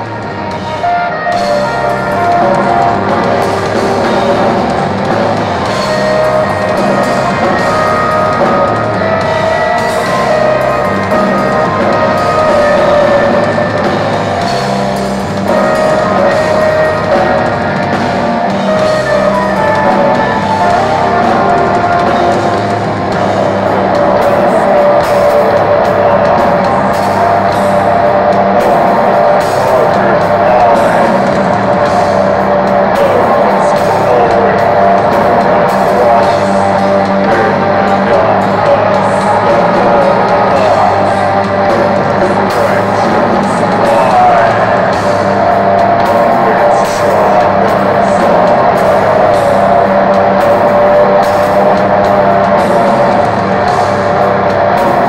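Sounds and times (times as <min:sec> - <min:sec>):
metal band playing live: 0:00.0 - 0:55.0.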